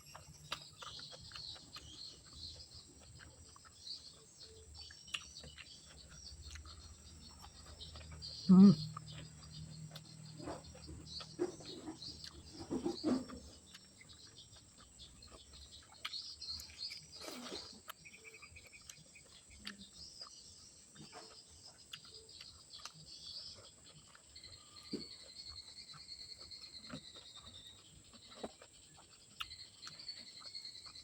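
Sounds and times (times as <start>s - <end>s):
chewing and crunching food: 0.0s - 31.0s
insect chirps: 0.0s - 31.0s.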